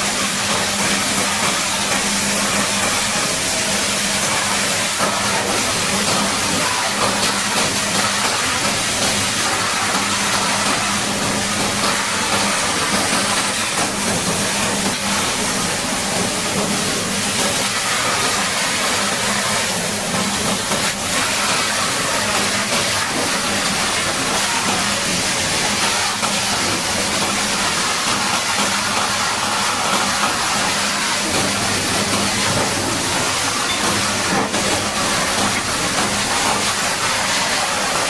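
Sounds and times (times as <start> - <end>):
high-pressure water jet spraying: 0.0 - 38.0.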